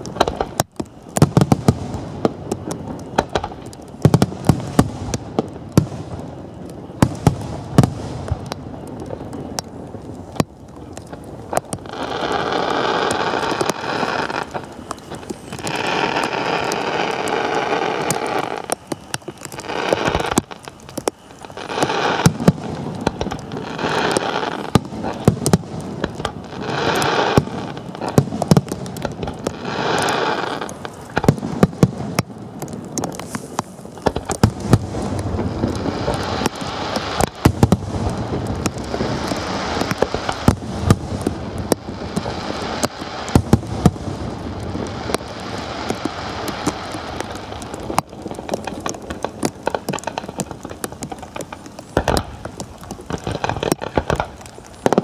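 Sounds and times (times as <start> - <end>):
firecrackers crackling and banging: 0.0 - 55.0.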